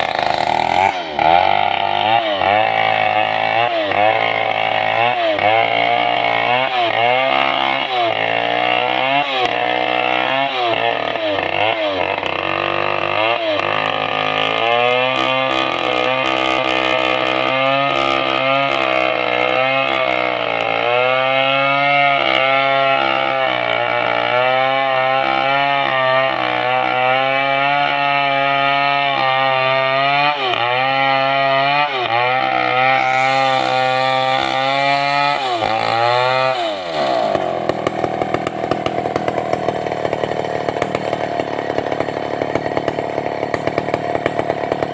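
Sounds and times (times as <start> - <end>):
chainsaw ripping through log: 0.0 - 44.9.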